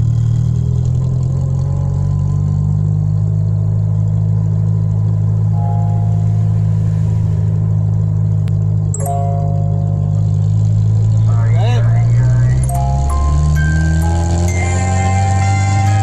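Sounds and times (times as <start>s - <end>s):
car engine low drone: 0.0s - 16.0s.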